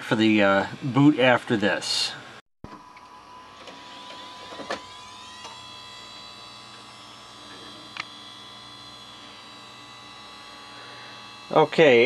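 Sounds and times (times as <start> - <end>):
computer fans and hard drive whine: 0.0 - 12.0.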